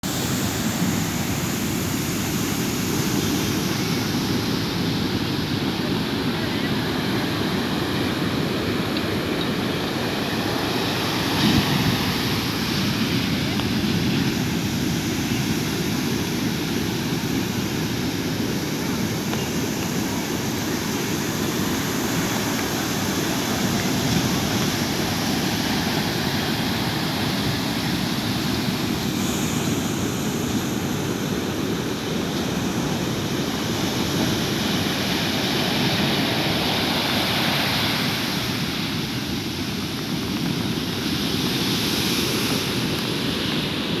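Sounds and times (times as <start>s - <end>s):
sea surf breaking on beach: 0.0s - 44.0s.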